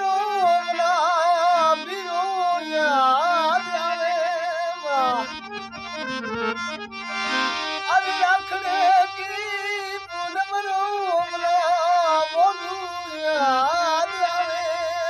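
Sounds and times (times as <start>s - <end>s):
harmonium playing: 0.0s - 15.0s
man singing with vibrato: 0.0s - 15.0s.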